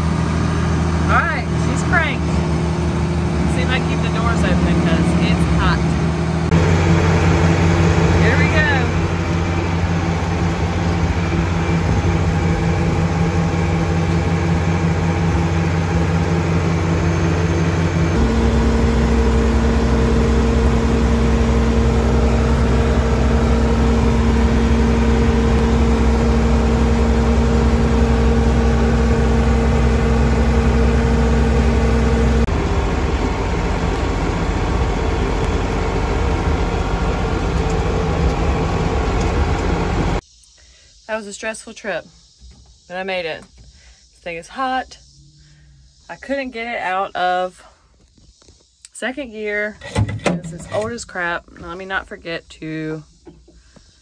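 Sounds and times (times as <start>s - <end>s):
tractor engine running: 0.0s - 40.2s, 49.2s - 53.9s.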